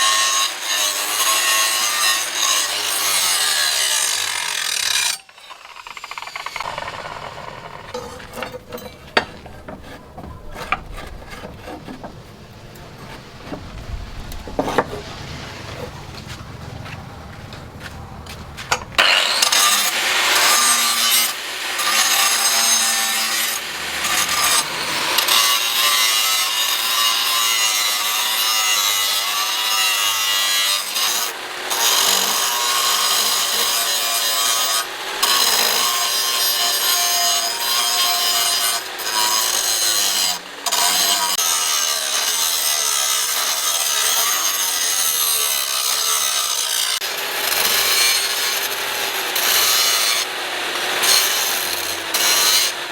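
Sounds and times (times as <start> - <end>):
power tool grinding: 0.0 - 52.9.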